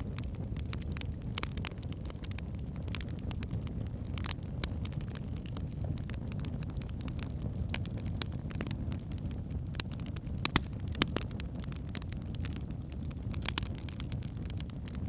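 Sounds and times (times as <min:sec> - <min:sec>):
fire crackling and popping: 0:00.0 - 0:15.0
fire low rumble: 0:00.0 - 0:15.0.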